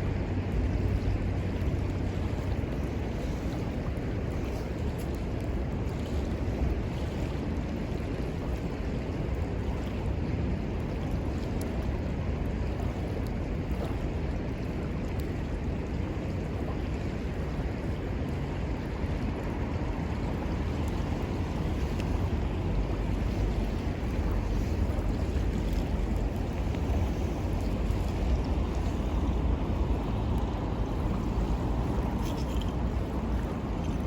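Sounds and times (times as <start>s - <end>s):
river rushing: 0.0s - 34.0s
wind buffeting microphone: 0.0s - 34.0s.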